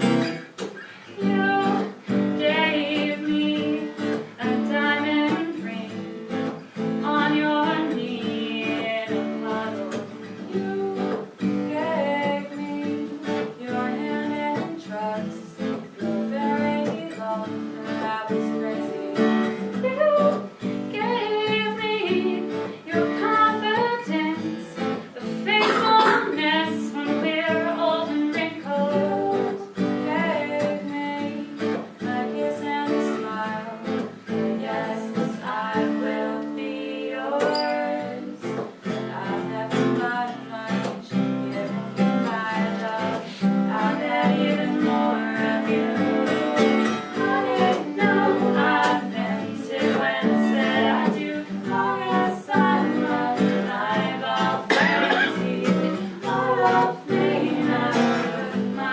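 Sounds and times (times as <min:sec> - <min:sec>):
strummed acoustic guitar: 0:00.0 - 0:58.9
women singing: 0:00.0 - 0:58.9.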